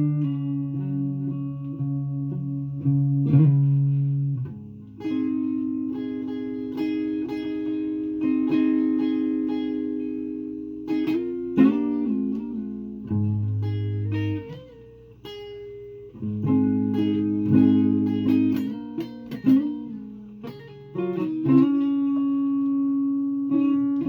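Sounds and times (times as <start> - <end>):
solo guitar: 0.0 - 24.0.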